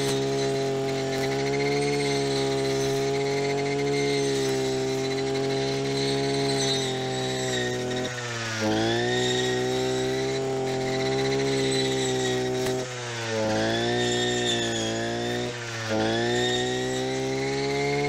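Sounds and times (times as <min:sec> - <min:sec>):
small engine running at high speed: 0:00.0 - 0:18.0.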